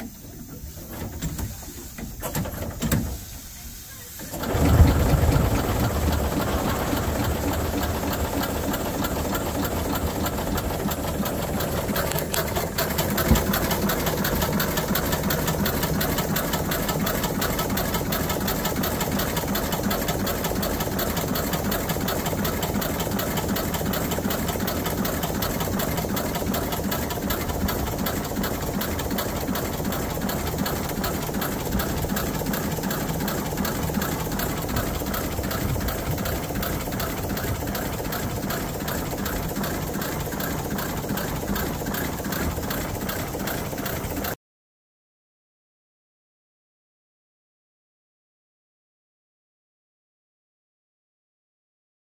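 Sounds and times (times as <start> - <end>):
steam engine clattering: 0.0 - 44.4.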